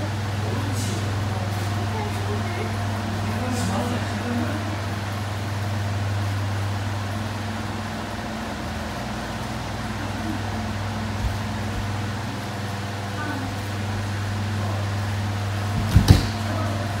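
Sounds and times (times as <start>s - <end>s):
electric fans humming: 0.0s - 17.0s.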